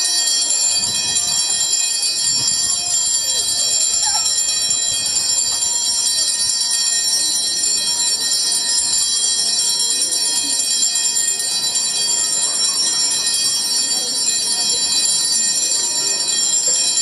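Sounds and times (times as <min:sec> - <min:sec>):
faint voices: 0:00.0 - 0:17.0
hand bells jingling: 0:00.0 - 0:17.0.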